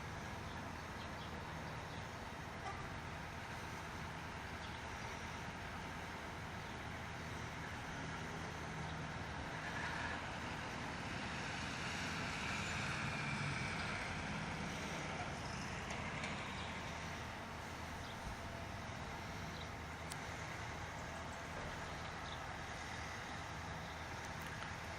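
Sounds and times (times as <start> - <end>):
fire engine drone: 0.0 - 24.9
tyre and road noise: 0.0 - 24.9.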